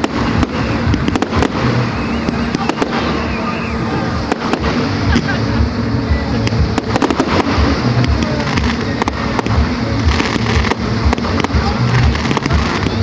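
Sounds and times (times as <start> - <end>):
fireworks bangs and crackles: 0.0 - 13.0
low rumble: 0.0 - 13.0.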